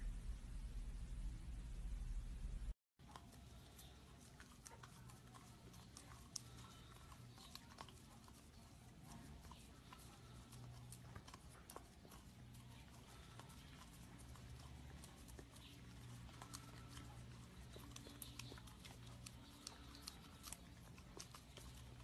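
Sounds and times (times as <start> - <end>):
low steady hum: 0.0 - 22.0
puppy licking wet smacking: 3.0 - 22.0.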